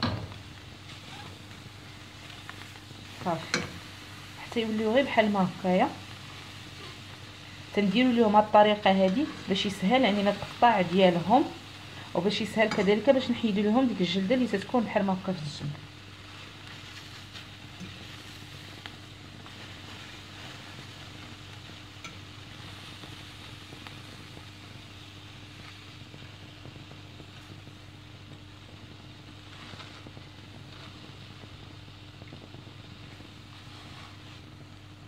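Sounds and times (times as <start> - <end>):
meat sizzling in frying pan: 0.0 - 35.0.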